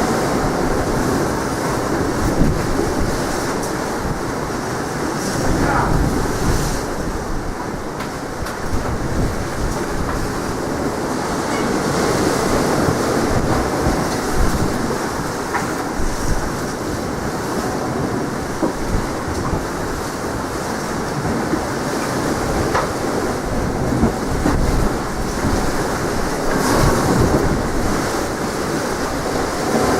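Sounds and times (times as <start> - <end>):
sea surf rushing: 0.0 - 29.9
wind buffeting microphone: 0.0 - 29.9.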